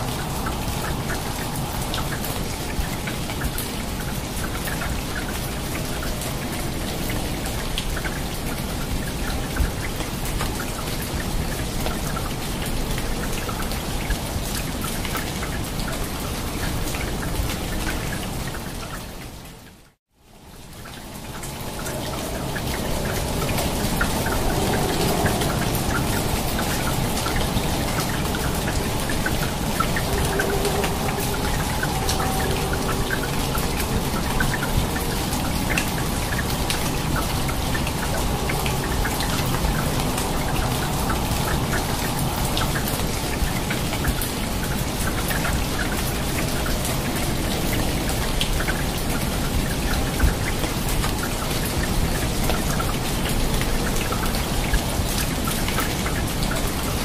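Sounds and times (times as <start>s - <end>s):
rain falling on foliage: 0.0s - 57.0s.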